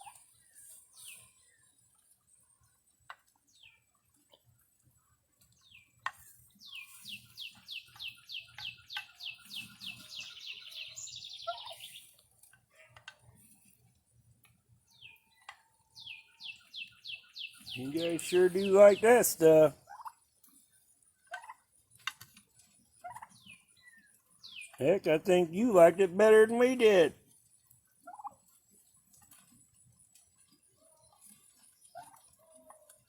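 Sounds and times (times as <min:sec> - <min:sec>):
young turkeys peeping: 0:00.0 - 0:04.4, 0:05.4 - 0:13.6, 0:14.9 - 0:27.1, 0:27.9 - 0:33.0.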